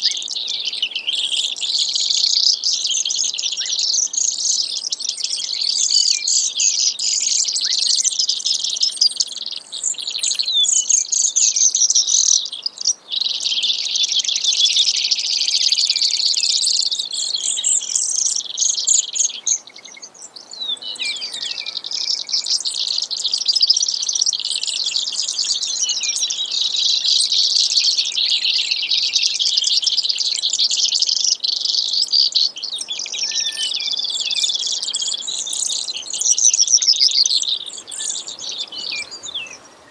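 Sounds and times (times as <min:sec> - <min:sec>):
sparrow singing high trills: 0:00.0 - 0:39.9.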